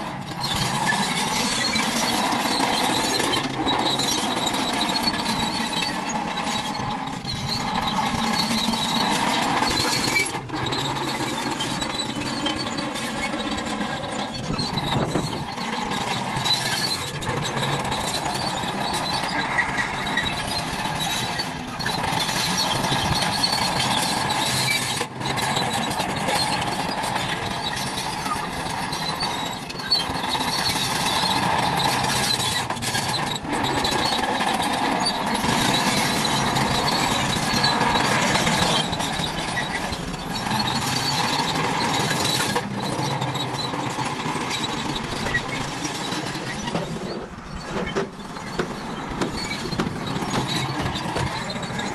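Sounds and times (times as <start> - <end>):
toy motors whirring and squealing: 0.0 - 51.9.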